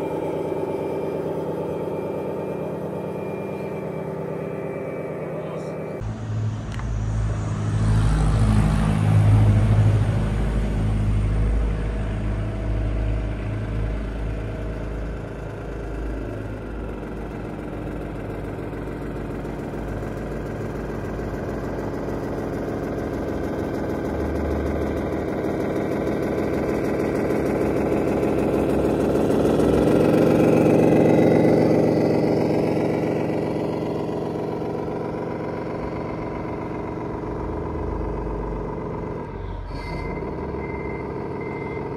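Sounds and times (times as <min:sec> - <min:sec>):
simulated diesel truck engine: 0:00.0 - 0:41.9.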